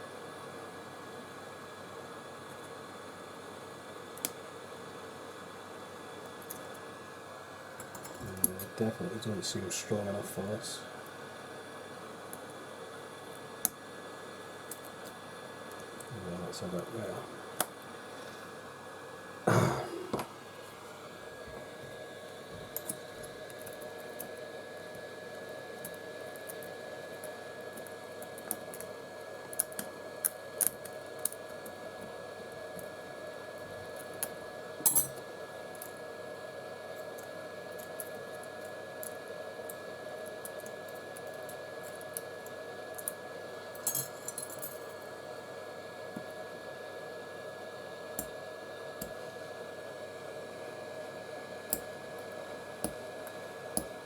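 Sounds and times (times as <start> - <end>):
faint hum: 3.2 - 54.0.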